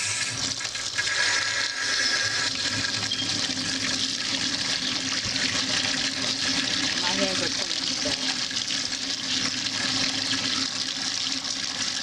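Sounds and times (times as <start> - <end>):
tap water running onto pasta: 0.0 - 12.0.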